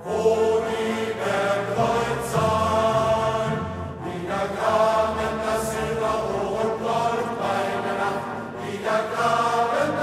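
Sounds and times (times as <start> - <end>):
choir chanting held chords: 0.0 - 10.0.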